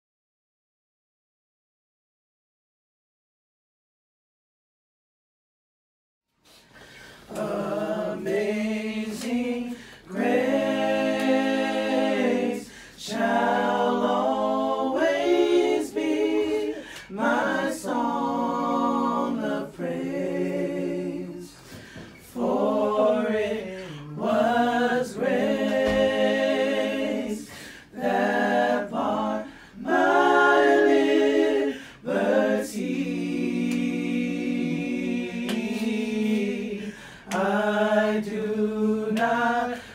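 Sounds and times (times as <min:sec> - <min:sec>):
group singing a cappella: 0:06.5 - 0:39.9.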